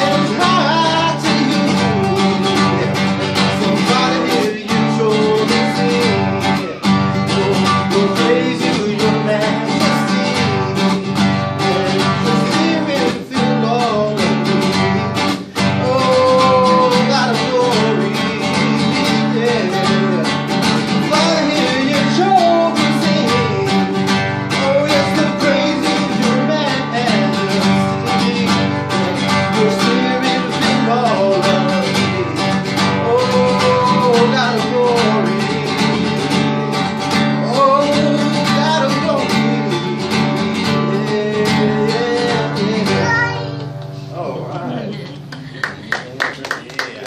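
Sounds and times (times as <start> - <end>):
man singing: 0.0 - 43.5
acoustic guitar strumming: 0.0 - 45.9.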